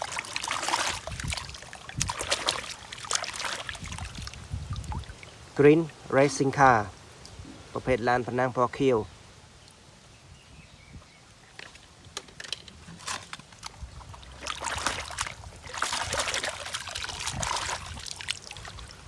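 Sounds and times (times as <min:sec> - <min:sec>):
water splashing and trickling: 0:00.0 - 0:08.2, 0:11.4 - 0:19.0.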